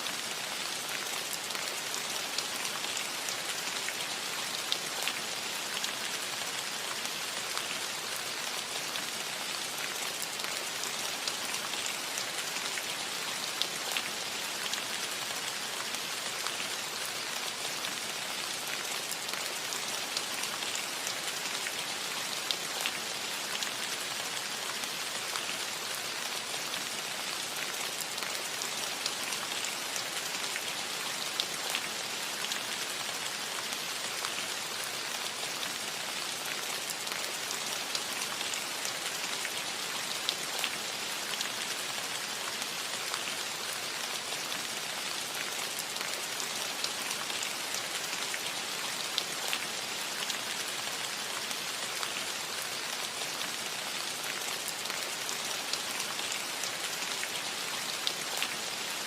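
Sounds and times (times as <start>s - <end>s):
rain on a roof: 0.0s - 59.0s.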